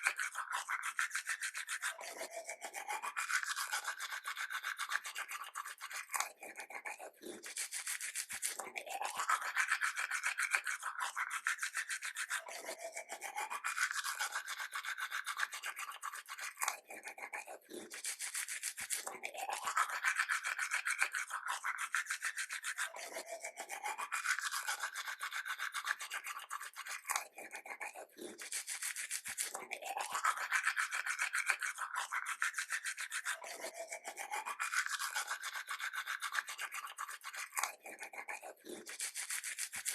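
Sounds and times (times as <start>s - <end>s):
toothbrush scrubbing teeth: 0.0s - 39.9s.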